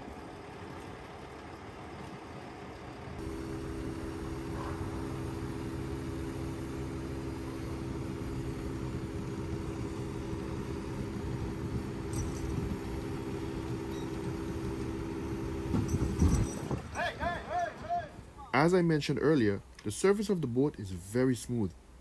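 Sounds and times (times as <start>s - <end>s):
truck diesel engine droning: 0.0s - 18.4s.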